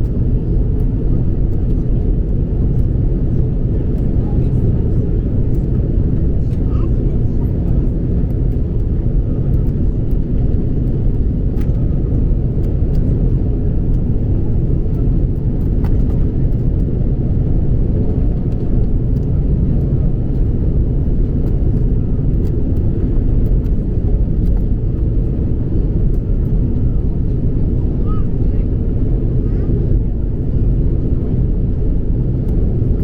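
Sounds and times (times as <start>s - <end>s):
jet engine cabin rumble: 0.0s - 33.0s.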